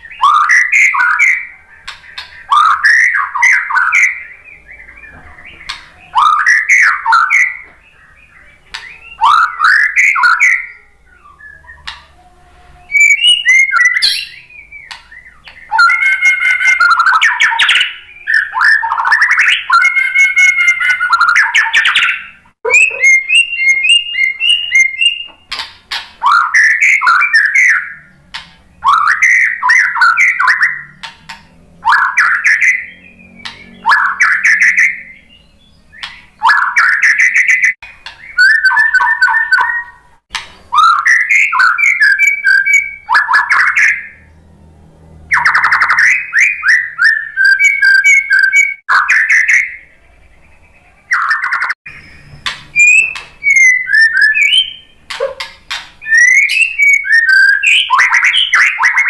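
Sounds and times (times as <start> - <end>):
bird singing whistled phrases: 0.0 - 25.6, 26.2 - 28.2, 28.8 - 31.0, 31.8 - 40.1, 40.7 - 44.2, 45.3 - 59.0.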